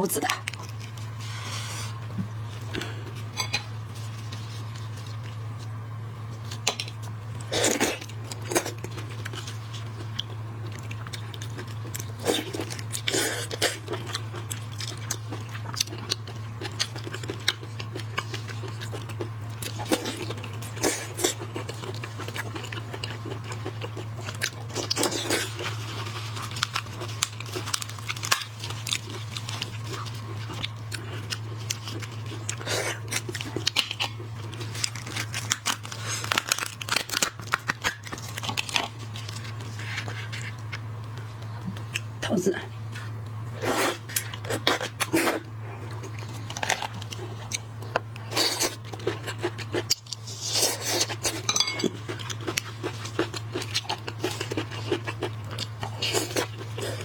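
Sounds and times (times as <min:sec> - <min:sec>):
chewing and crunching shrimp: 0:00.1 - 0:57.0.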